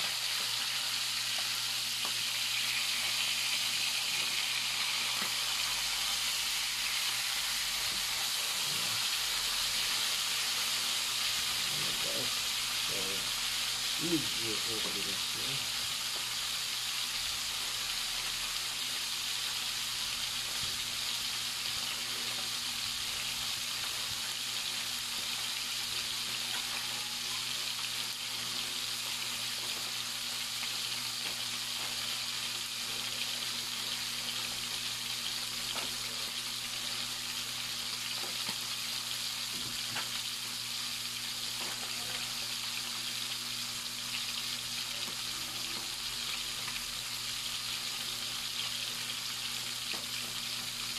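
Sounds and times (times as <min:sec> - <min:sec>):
fish sizzling in oil: 0:00.0 - 0:50.9.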